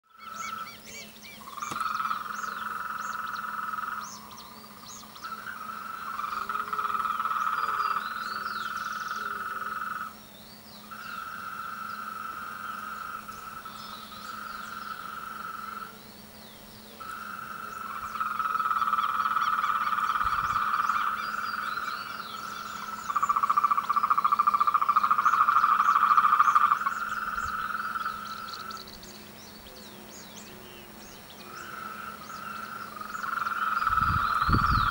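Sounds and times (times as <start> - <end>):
frogs calling in chorus: 0.0 - 34.9.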